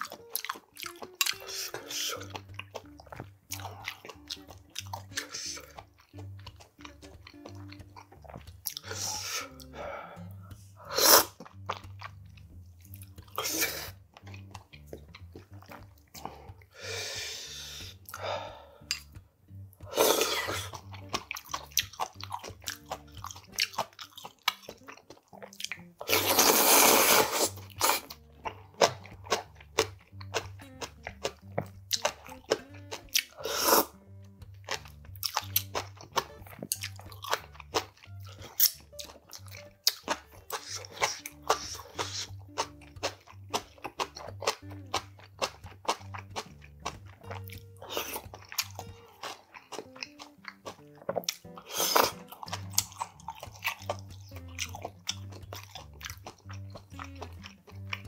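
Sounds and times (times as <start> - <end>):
chewing and crunching food: 0.0 - 58.0
soft background music with beat: 0.0 - 58.0.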